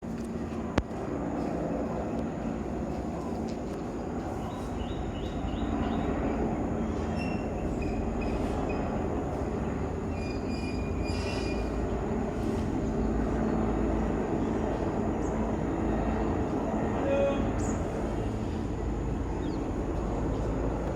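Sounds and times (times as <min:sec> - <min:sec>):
helicopters rotor rumble: 0:00.0 - 0:20.9
faint high whining tones: 0:00.7 - 0:20.9.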